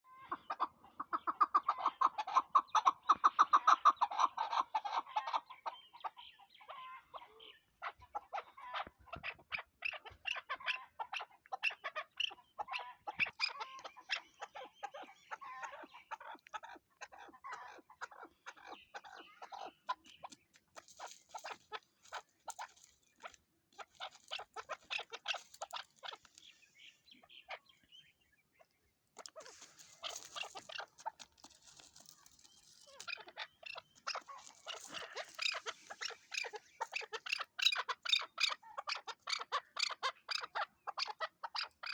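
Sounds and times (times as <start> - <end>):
partridge clucking calls: 0.1 - 41.9.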